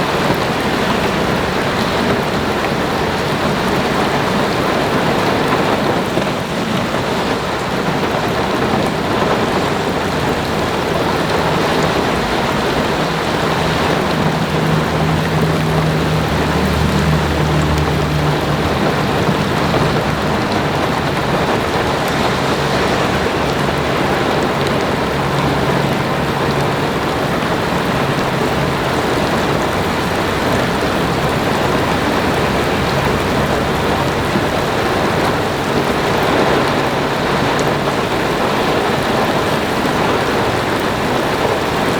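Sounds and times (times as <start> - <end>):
motorboat engine droning: 0.0 - 41.9
rough water: 0.0 - 41.9
wind on microphone: 0.0 - 41.9.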